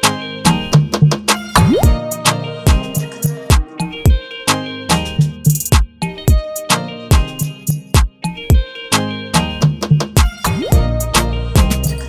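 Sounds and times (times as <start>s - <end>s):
electronic music with drum beat: 0.0s - 12.0s.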